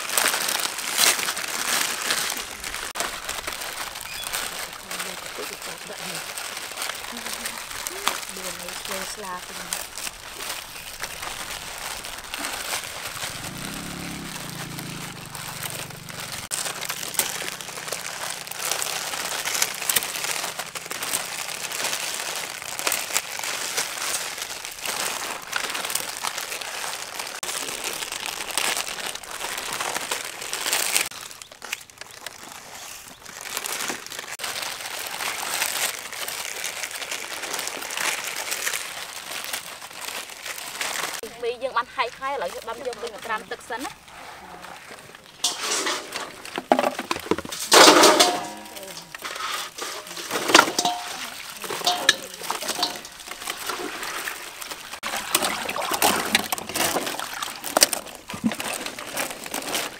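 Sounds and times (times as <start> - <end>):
plastic packets crinkling: 0.0 - 44.1, 44.7 - 59.9.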